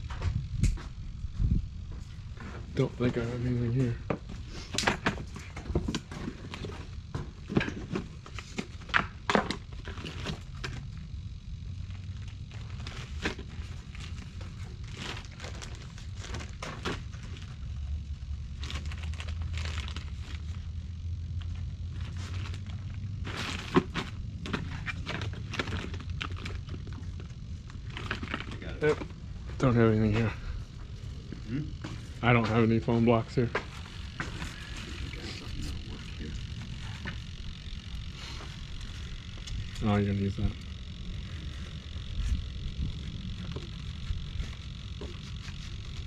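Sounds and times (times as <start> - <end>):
low rumble: 0.0 - 2.8, 10.8 - 46.0.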